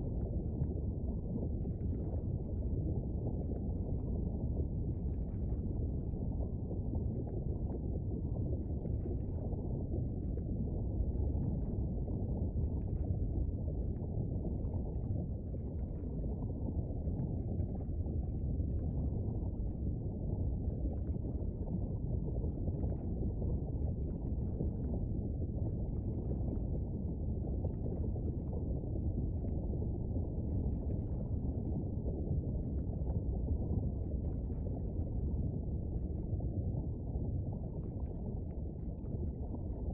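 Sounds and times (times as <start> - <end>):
low volcanic rumble: 0.0 - 39.9
faint crackles: 0.2 - 39.9.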